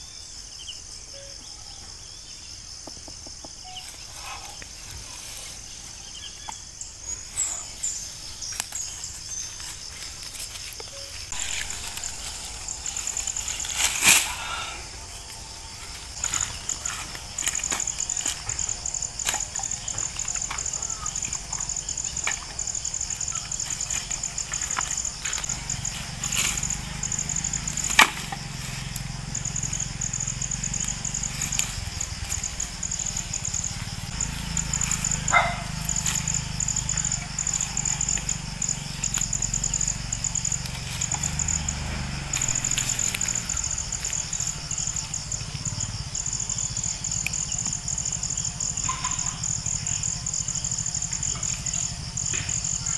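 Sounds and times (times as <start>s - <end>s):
insects trilling: 0.0s - 52.9s.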